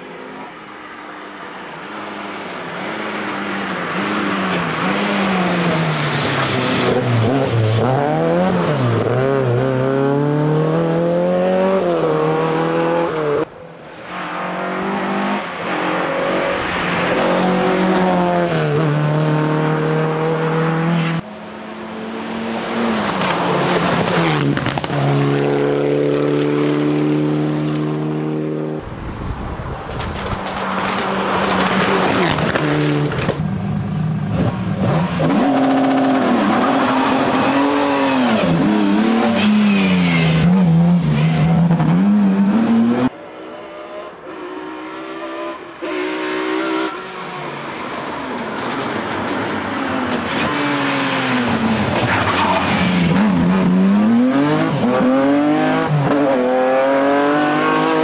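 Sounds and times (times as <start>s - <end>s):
racing car engines revving: 0.1s - 28.8s, 29.6s - 58.0s.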